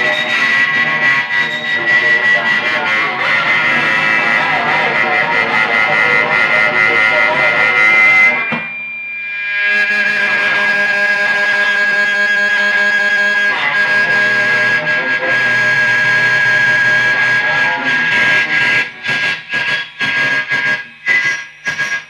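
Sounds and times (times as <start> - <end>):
distorted electric guitar drone: 0.0 - 22.0.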